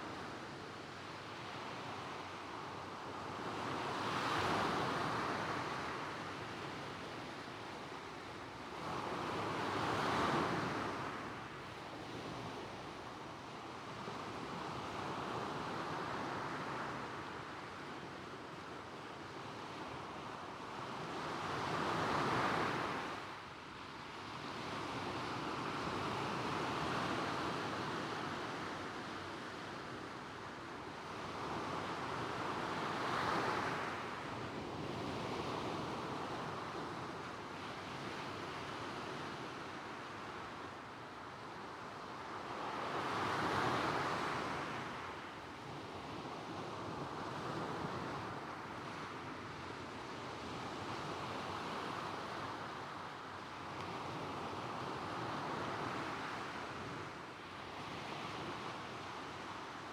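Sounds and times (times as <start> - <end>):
soft coastal wind: 0.0 - 59.9.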